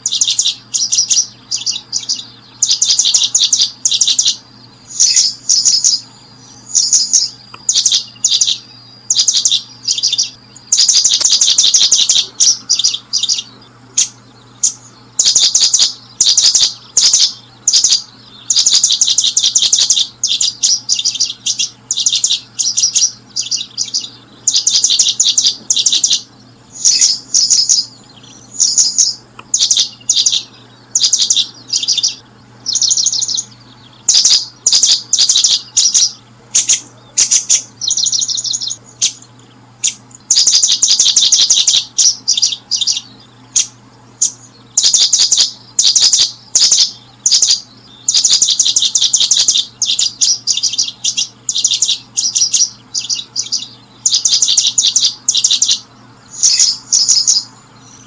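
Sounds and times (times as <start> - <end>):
faint low hum: 0.0 - 58.0
small birds chirping: 0.0 - 58.0.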